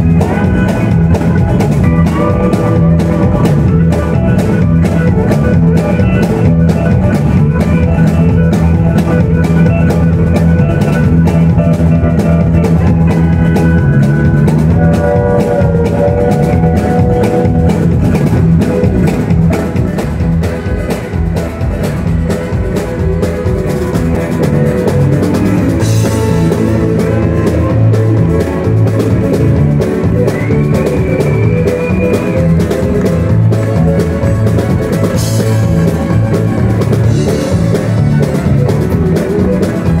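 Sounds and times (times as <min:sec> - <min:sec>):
electric bass: 0:00.0 - 0:40.0
pedal steel guitar: 0:00.0 - 0:40.0
steady drum beat: 0:00.0 - 0:40.0.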